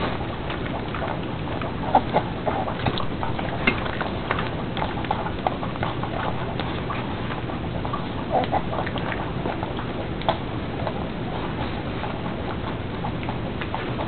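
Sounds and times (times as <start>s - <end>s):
dog chewing food: 0.0s - 14.0s.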